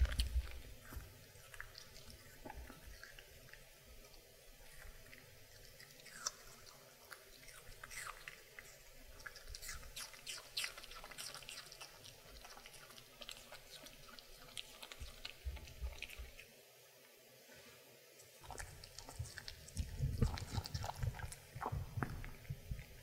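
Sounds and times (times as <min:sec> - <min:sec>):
dog crunching apple: 0:00.0 - 0:03.7, 0:04.6 - 0:16.5, 0:18.4 - 0:22.5.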